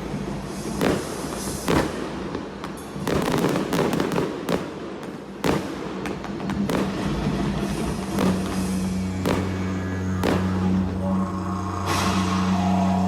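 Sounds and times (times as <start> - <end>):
fireworks bangs: 0.0 - 11.0
fireworks crackling: 0.0 - 13.0.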